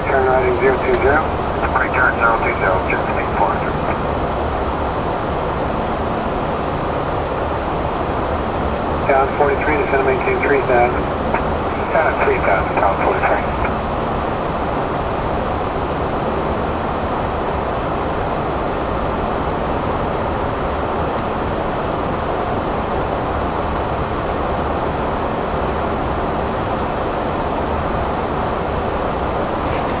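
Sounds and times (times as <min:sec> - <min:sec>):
aircraft airflow and engines roar: 0:00.0 - 0:30.0
faint steady hum: 0:00.0 - 0:30.0.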